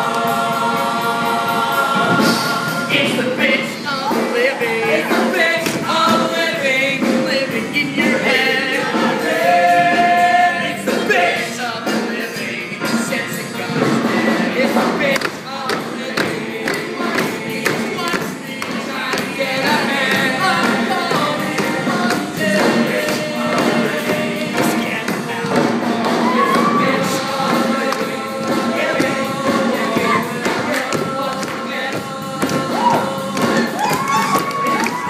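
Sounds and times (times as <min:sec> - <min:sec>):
male ensemble singing: 0:00.0 - 0:35.0
rock band backing: 0:00.0 - 0:35.0.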